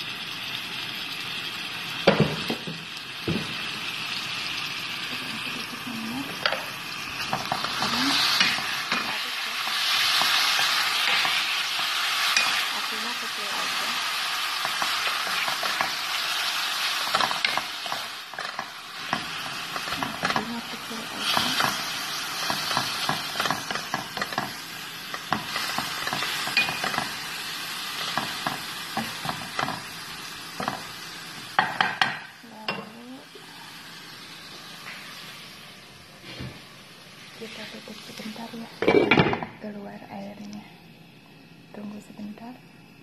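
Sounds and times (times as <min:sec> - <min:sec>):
chicken sizzling in a wok: 0:00.0 - 0:43.0.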